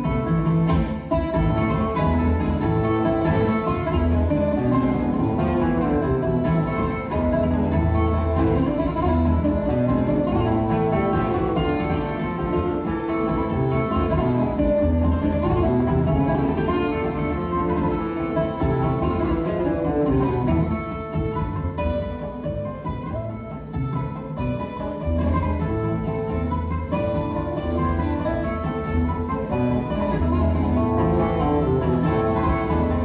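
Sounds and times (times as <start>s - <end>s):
classical guitar accompaniment: 0.0s - 33.0s
plucked guitar melody: 0.0s - 33.0s.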